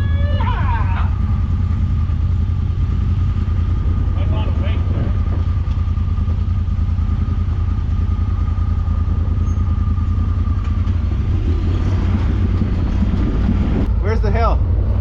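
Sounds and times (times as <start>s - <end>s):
utility vehicle engine idling: 0.0s - 15.0s.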